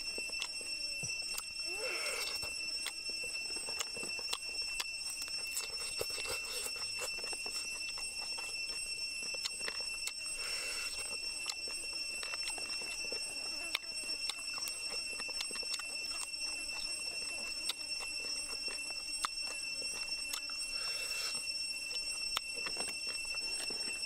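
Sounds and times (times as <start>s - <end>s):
chewing and tearing ribs: 0.0s - 24.0s
insects droning: 0.0s - 24.0s.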